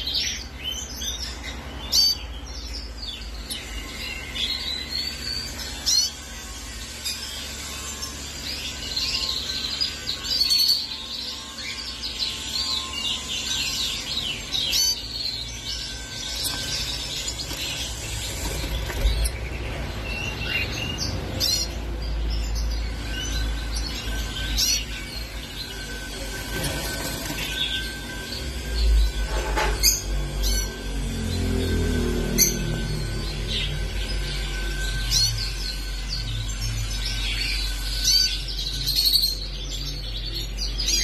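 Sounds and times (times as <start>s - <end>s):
finches chirping and twittering: 0.0s - 41.0s.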